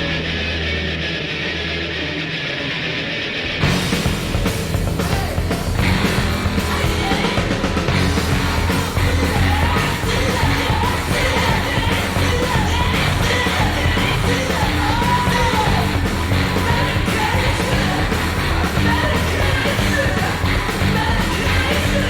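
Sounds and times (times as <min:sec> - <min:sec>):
hard rock song with shouted vocals: 0:00.0 - 0:22.0.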